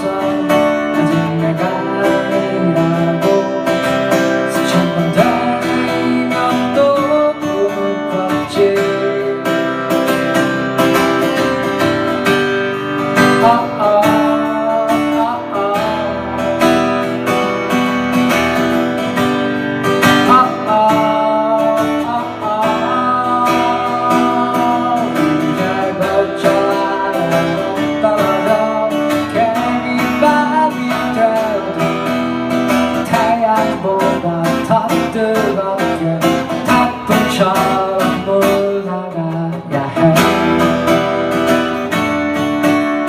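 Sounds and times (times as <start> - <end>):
acoustic guitar strumming chords: 0.0 - 43.0
bending guitar melody line: 0.0 - 43.0.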